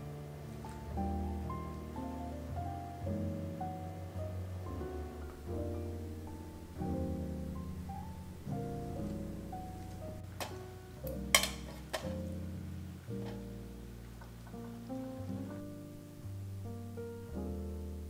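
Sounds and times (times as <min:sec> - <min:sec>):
gentle piano chords: 0:00.0 - 0:18.0.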